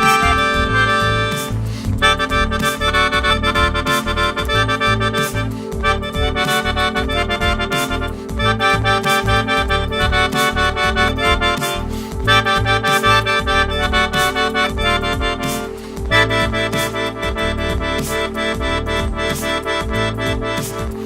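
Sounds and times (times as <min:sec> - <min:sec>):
pulsing low bass: 0:00.0 - 0:21.0
sustained chords: 0:00.0 - 0:21.0.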